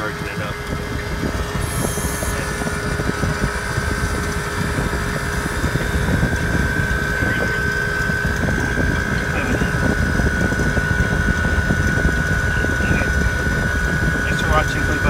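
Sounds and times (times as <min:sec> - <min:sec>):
compressor hum: 0:00.0 - 0:15.0
fan air rushing: 0:00.0 - 0:15.0
steady high whine: 0:00.0 - 0:15.0.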